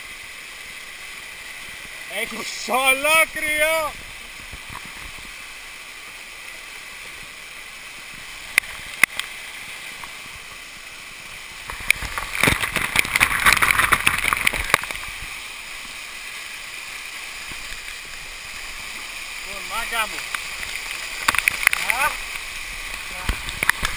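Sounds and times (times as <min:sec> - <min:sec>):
waterfall rushing over rocks: 0:00.0 - 0:23.9.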